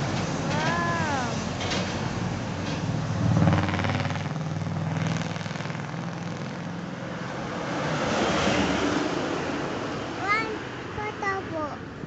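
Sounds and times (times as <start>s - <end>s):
truck engine driving past: 0.0s - 10.2s.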